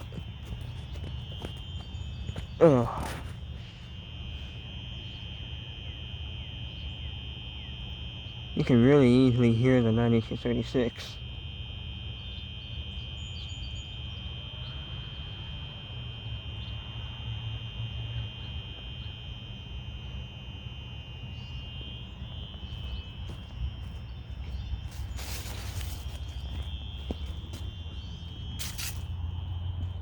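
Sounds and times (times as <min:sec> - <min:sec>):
fire alarm horns sounding: 0:00.0 - 0:30.0.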